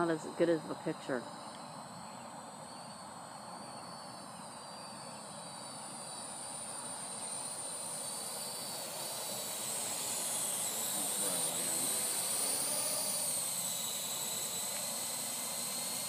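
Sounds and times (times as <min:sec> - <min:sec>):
quadcopter propellers whining: 0:00.0 - 0:16.0.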